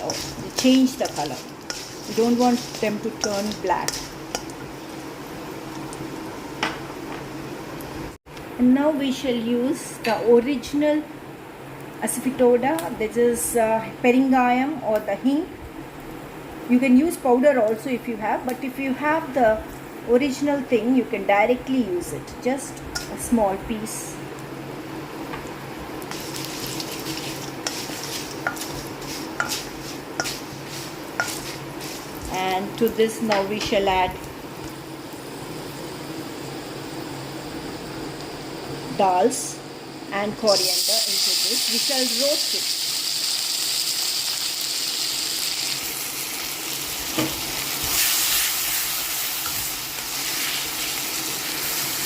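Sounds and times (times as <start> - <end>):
spices sizzling in oil: 0.0 - 10.8, 16.0 - 52.0.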